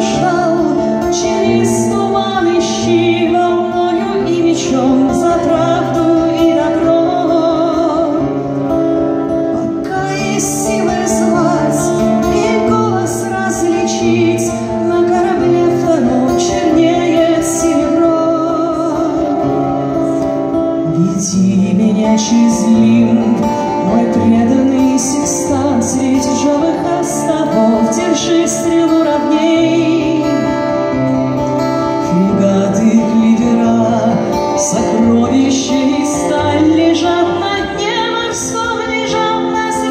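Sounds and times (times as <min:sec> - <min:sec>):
plucked acoustic guitar: 0:00.0 - 0:39.9
woman singing with vibrato: 0:00.0 - 0:39.9.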